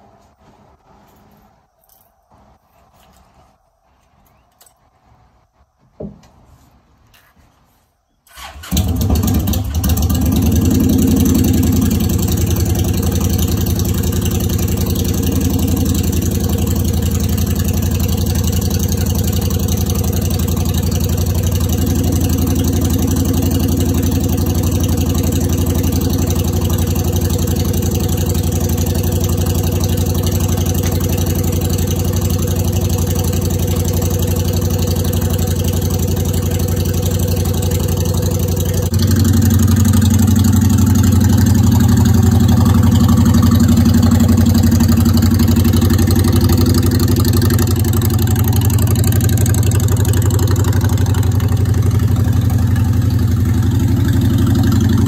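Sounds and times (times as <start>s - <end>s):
motorcycle engine starting and idling: 8.3s - 55.0s.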